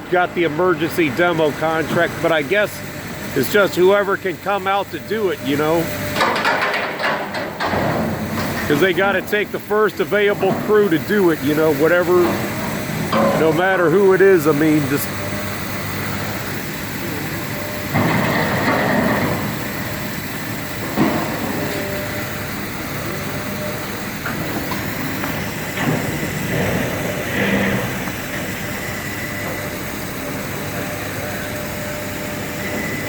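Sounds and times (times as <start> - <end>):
heavy engine running: 0.0 - 33.0.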